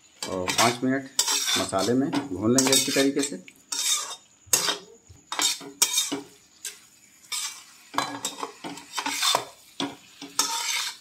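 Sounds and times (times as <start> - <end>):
metal spatula scraping a pan: 0.1 - 11.0.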